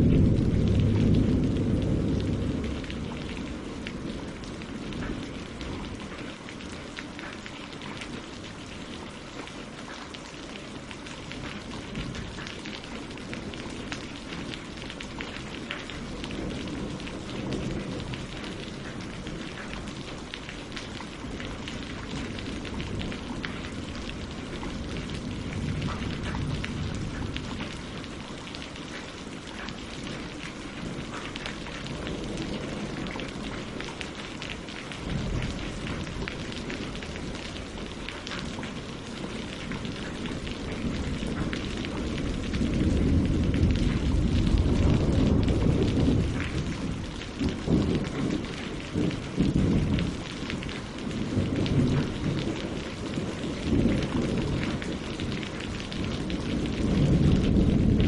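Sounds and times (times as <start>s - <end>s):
rain on leaves and water: 0.0s - 58.0s.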